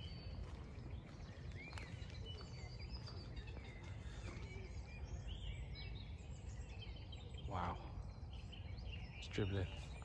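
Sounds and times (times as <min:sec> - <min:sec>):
songbirds chirping and warbling: 0:00.0 - 0:10.0.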